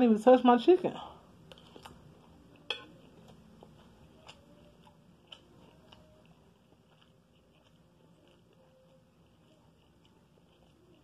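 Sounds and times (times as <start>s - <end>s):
faint chewing clicks: 1.5s - 11.0s.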